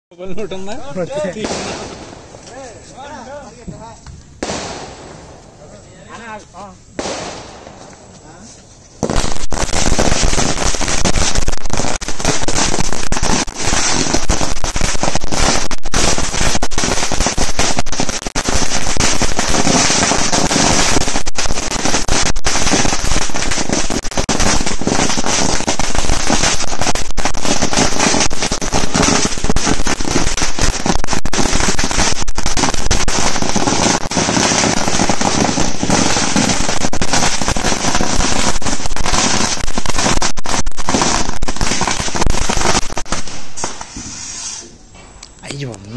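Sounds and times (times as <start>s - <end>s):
firecracker string going off: 7.0s - 44.8s.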